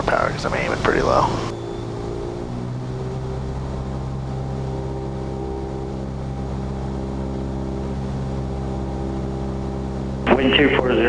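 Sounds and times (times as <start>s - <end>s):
aircraft engine and propeller drone: 0.0s - 11.0s.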